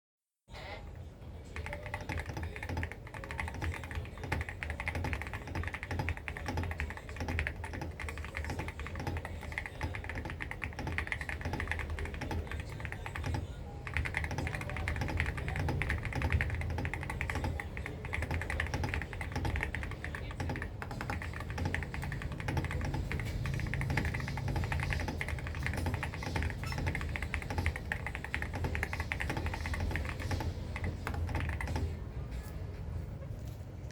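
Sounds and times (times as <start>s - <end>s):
mechanical keyboard typing: 1.5s - 32.0s.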